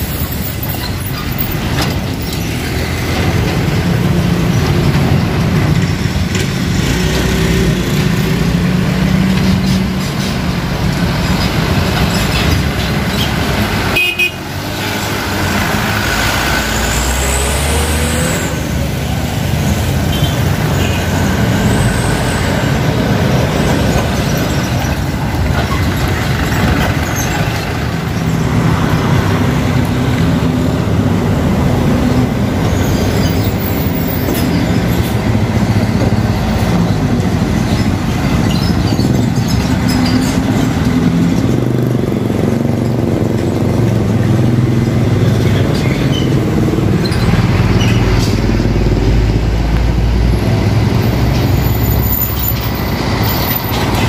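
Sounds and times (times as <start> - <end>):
motorcycles passing: 0.0 - 33.5, 34.1 - 54.0
trucks and bus driving past: 0.0 - 54.0
tyre and road noise: 0.0 - 54.0.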